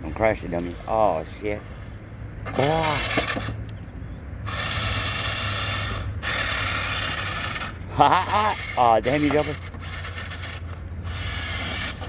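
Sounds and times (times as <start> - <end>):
rc truck tyres scraping dirt: 0.0 - 3.8, 4.4 - 12.0.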